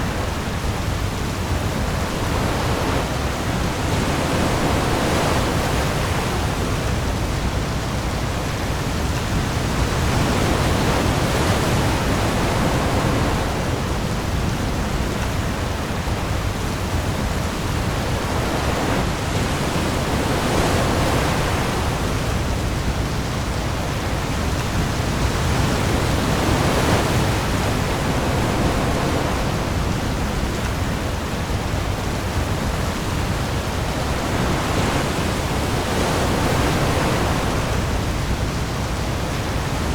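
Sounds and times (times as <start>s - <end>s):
heavy rain on the sea: 0.0s - 39.9s
waves swelling: 0.0s - 39.9s.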